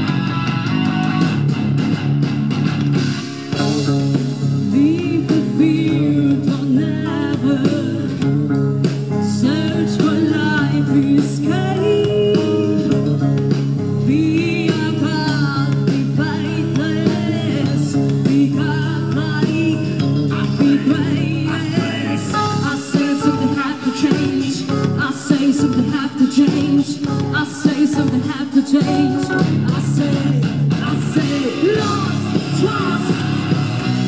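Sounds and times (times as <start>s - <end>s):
electric guitars: 0.0s - 34.0s
live rock band playing: 0.0s - 34.0s
person singing: 3.5s - 34.0s.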